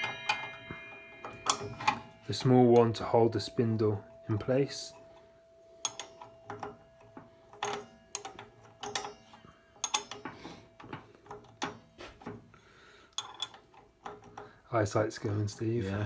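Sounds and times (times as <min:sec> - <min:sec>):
spanners clinking on metal: 0:00.0 - 0:12.5, 0:13.1 - 0:14.6
faint steady hum: 0:00.0 - 0:16.0.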